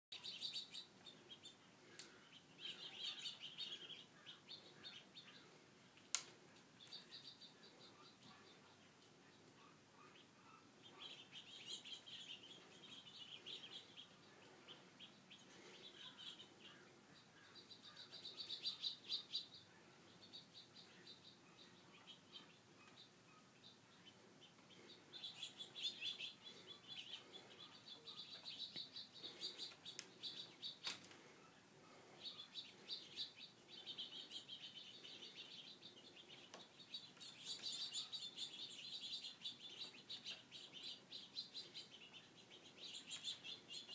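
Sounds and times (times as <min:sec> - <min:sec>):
small birds chirping: 0:00.1 - 0:43.9.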